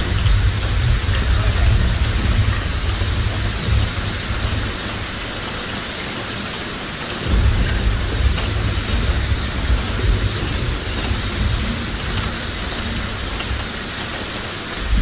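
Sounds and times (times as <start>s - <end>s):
thunder rumbling: 0.0s - 5.7s, 7.2s - 15.0s
heavy rain hissing: 0.0s - 15.0s.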